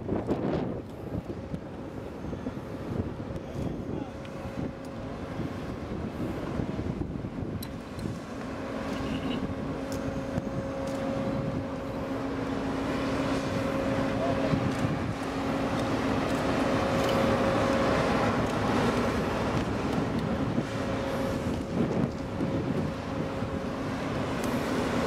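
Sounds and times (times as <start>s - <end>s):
heavy machinery engine hum: 0.0s - 25.0s
wind buffeting microphone: 0.0s - 25.0s.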